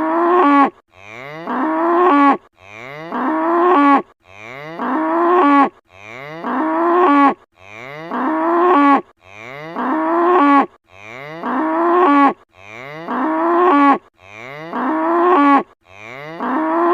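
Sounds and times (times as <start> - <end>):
cow mooing: 0.0 - 16.9.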